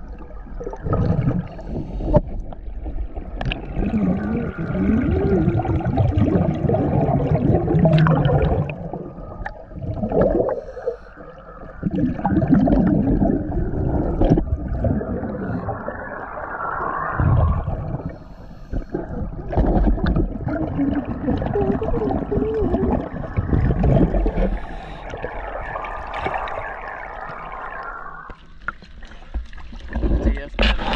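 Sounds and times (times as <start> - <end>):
scuba regulator bubbly exhalations: 0.0 - 30.9.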